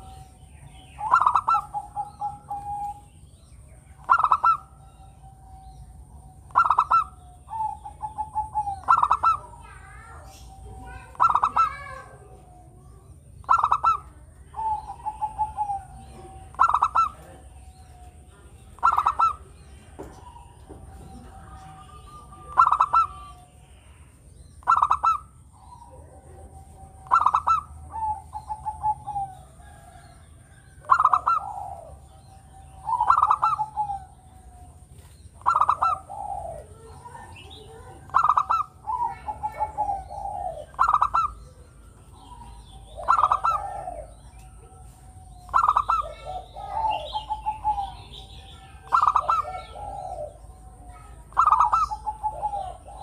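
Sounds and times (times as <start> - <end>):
dove cooing song: 0.0 - 53.0.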